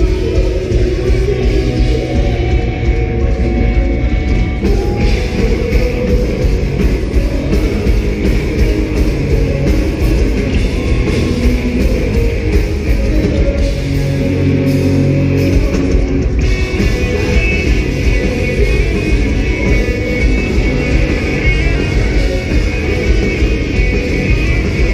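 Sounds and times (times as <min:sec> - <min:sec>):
live pop-punk band playing: 0:00.0 - 0:24.9.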